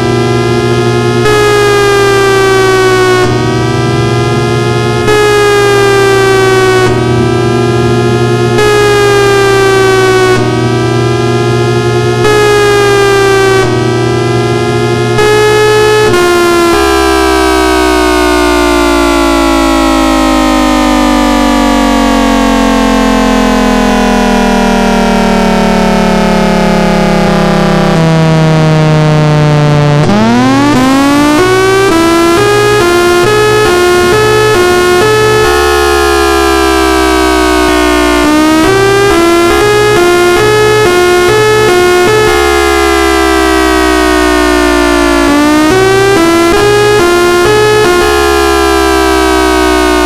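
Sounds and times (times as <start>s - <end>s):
warning siren winding up and down: 0.0s - 50.0s.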